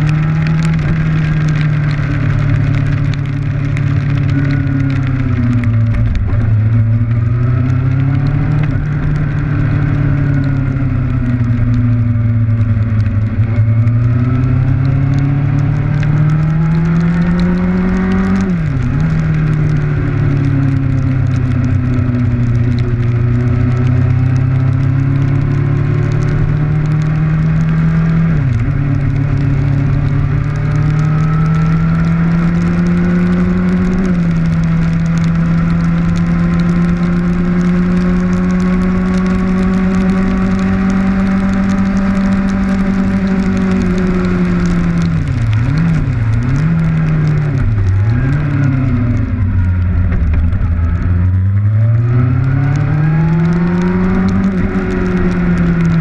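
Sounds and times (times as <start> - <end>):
motorcycle engine running: 0.0 - 56.0
wind and rain noise: 0.0 - 56.0.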